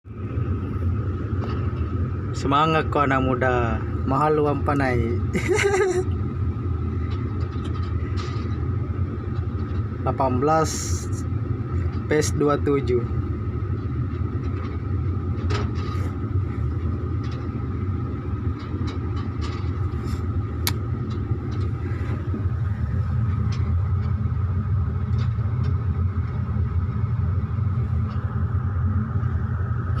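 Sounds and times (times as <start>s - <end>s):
excavator diesel engine running: 0.1s - 30.0s
high whine: 0.1s - 30.0s.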